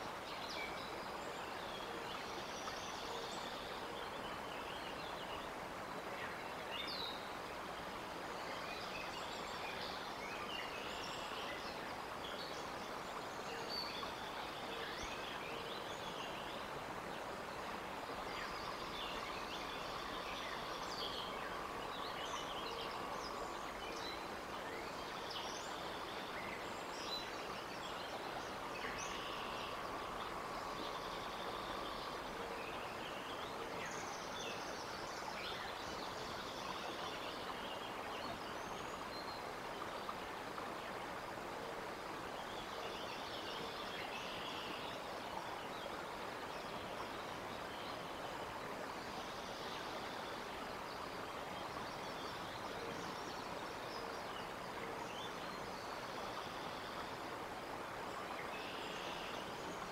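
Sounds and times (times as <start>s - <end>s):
faint steady hum: 0.0s - 59.9s
songbirds chirping and trilling: 0.0s - 59.9s
steady hiss: 0.0s - 59.9s.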